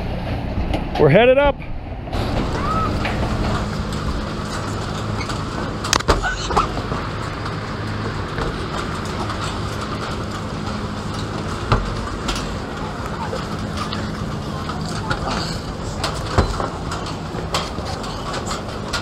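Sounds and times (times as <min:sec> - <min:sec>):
low hum and rumble: 0:00.0 - 0:19.0.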